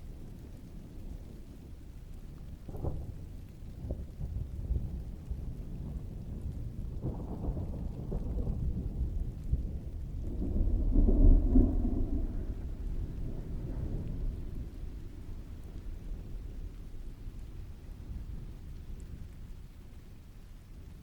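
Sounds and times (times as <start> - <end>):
steady rain: 0.0 - 21.0
thunder rumbling: 0.0 - 21.0.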